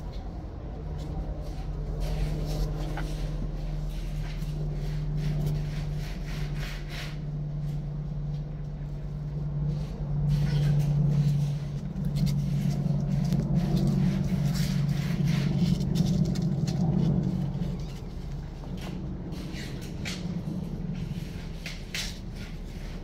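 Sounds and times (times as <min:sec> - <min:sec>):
light rustles and ticks: 0:00.0 - 0:23.0
low mechanical hum: 0:00.0 - 0:23.0.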